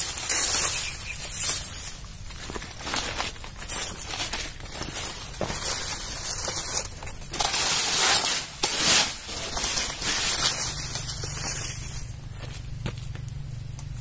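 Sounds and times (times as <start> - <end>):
leaves swishing: 0.0 - 12.8
leaves rustling and crackling: 0.0 - 14.0.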